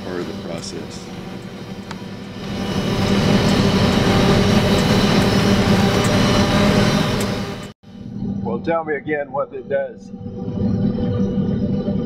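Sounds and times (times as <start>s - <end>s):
harvester machine drone: 0.0s - 12.0s
low hum: 0.0s - 12.0s.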